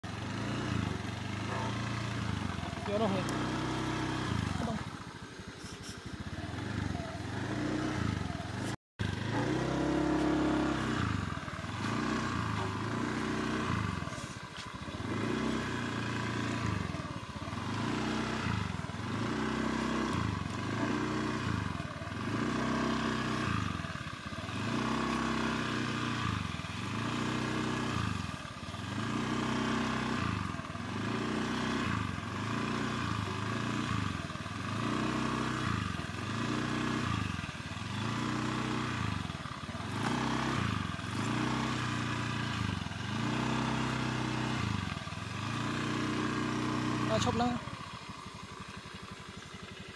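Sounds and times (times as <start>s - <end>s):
motor scooter engine running: 0.0s - 49.9s.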